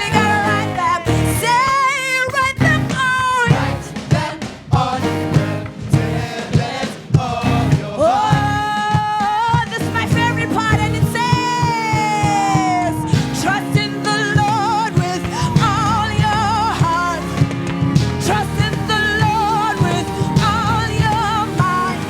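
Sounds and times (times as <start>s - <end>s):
band with drums playing: 0.0s - 22.0s.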